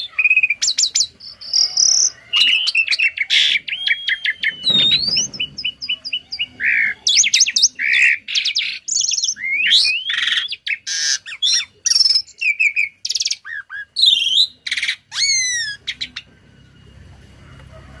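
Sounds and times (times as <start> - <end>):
starling singing: 0.0 - 18.0.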